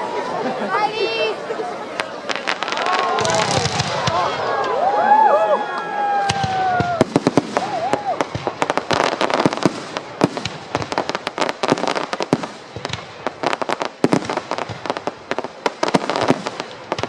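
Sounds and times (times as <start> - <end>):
fireworks bangs and crackles: 1.9 - 4.8, 6.1 - 17.0.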